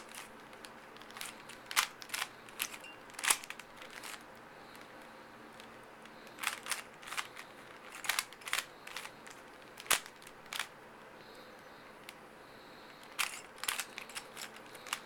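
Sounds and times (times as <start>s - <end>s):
puzzle cube plastic clicks: 0.0s - 10.7s, 12.9s - 15.0s.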